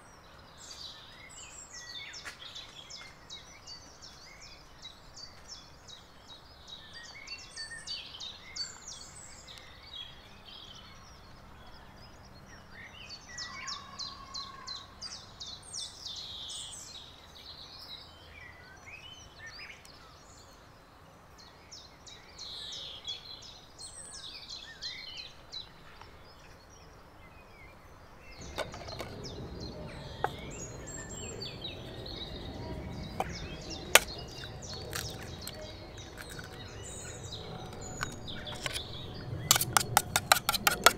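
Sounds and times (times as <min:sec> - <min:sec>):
small birds singing: 0:00.0 - 0:40.9.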